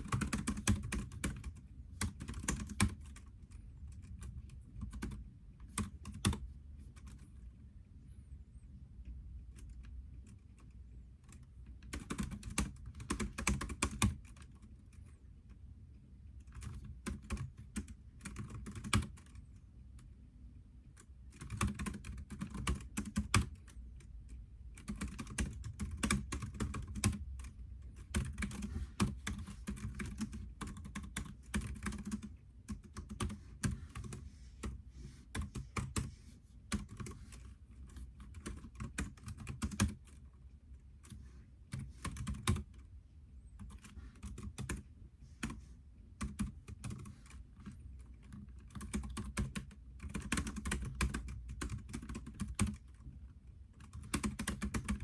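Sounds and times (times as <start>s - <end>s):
computer keyboard typing: 0.0s - 7.4s, 9.5s - 15.1s, 16.4s - 20.1s, 21.0s - 40.3s, 40.9s - 42.9s, 43.5s - 45.6s, 46.2s - 53.1s, 53.7s - 55.0s.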